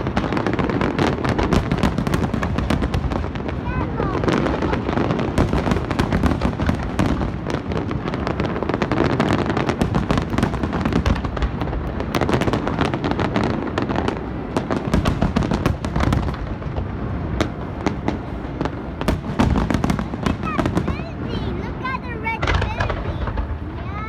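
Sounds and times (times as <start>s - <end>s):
booming firework shells: 0.0s - 24.0s
fireworks crackling and cracking: 0.0s - 24.0s.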